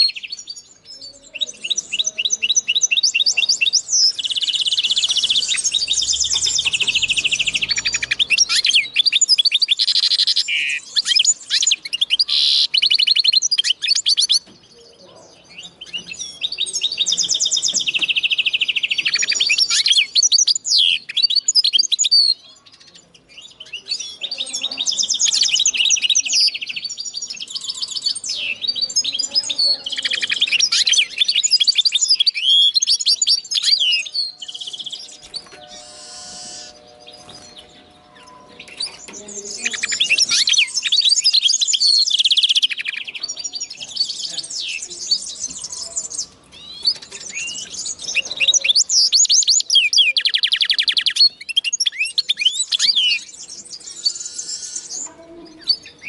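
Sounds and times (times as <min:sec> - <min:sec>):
bird singing fast high trills: 0:00.0 - 0:14.3, 0:23.7 - 0:55.1.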